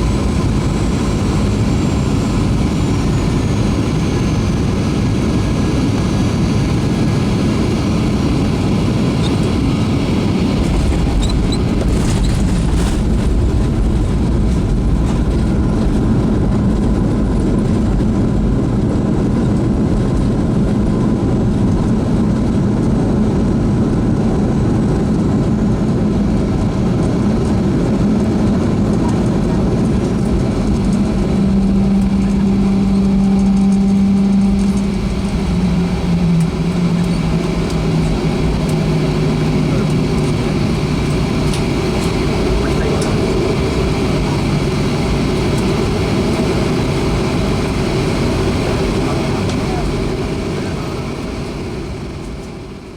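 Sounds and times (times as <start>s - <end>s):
aircraft cabin rumble: 0.0s - 52.9s
jet engine hum: 0.0s - 52.9s.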